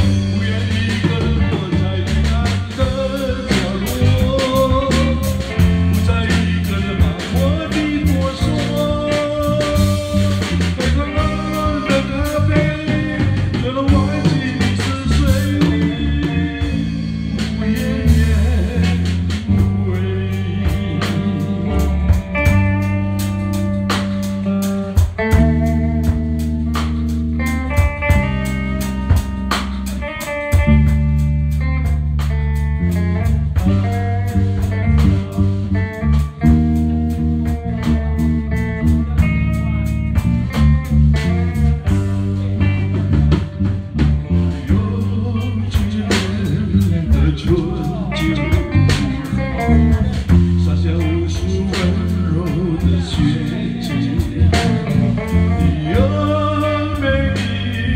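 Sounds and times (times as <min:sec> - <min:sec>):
drum kit beat: 0:00.0 - 0:57.9
electric bass: 0:00.0 - 0:57.9
guitar melody: 0:00.0 - 0:57.9.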